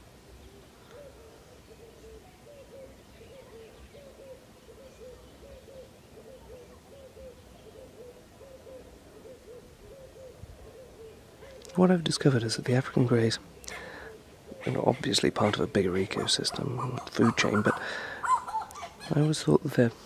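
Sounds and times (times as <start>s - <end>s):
bird calling low notes: 0.0s - 12.0s, 13.4s - 19.6s.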